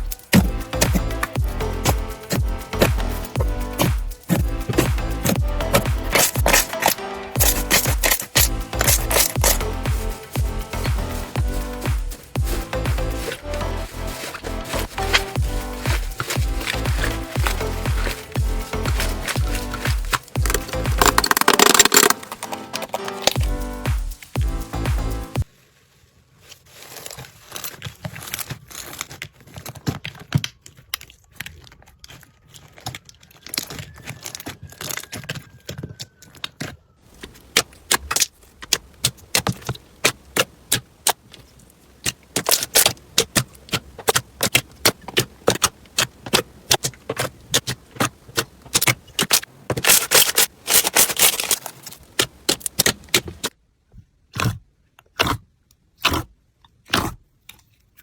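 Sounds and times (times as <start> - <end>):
slime crackling and popping: 0.0 - 24.4, 26.8 - 53.6.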